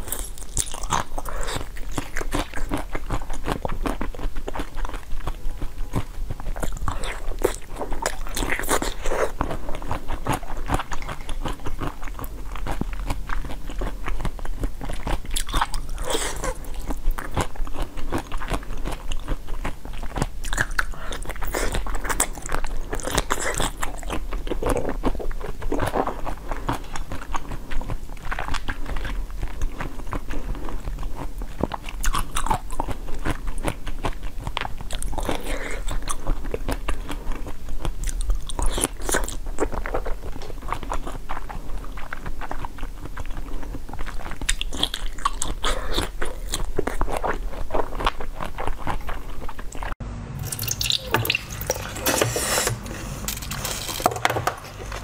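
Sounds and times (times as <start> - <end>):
person chewing jelly: 0.0 - 55.0.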